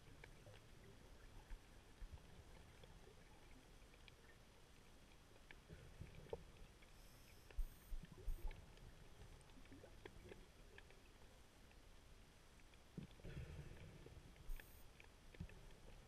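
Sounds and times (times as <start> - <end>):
faint clicks: 0.0 - 16.0
muffled underwater ambience: 0.0 - 16.0.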